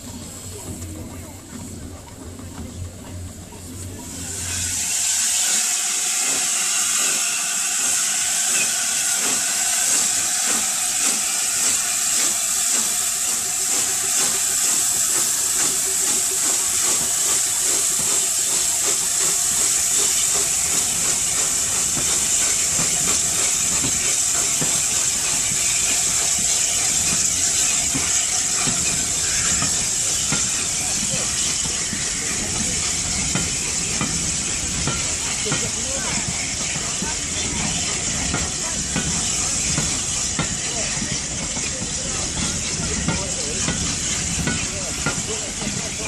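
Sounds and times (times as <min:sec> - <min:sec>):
passing train rumble: 0:00.0 - 0:46.0
steam locomotive hissing: 0:00.0 - 0:46.0.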